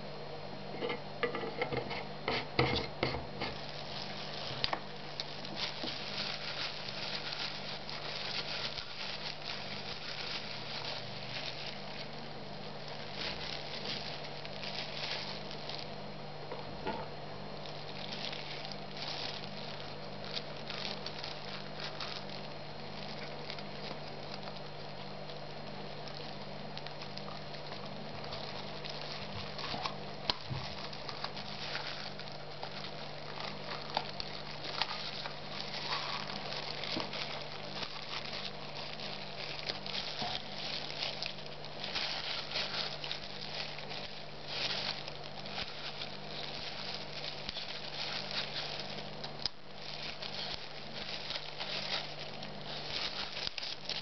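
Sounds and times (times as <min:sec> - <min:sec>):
steady low hum: 0:00.0 - 0:54.0
plastic gloves rustling: 0:00.7 - 0:54.0.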